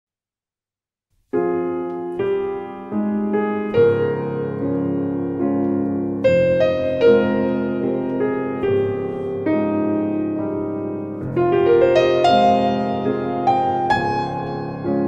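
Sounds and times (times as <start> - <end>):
slow piano chords: 1.3 - 15.0.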